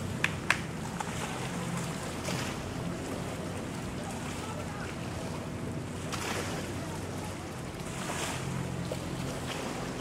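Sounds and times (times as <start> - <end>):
distant motorboat engine: 0.0 - 10.0.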